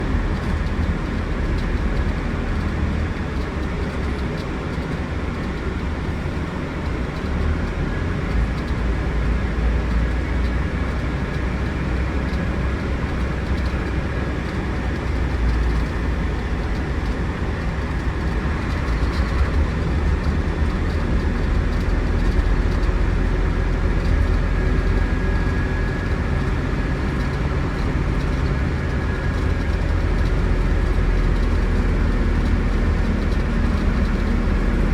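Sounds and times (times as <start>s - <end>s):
coach engine rumble: 0.0s - 34.9s
road noise: 0.0s - 34.9s.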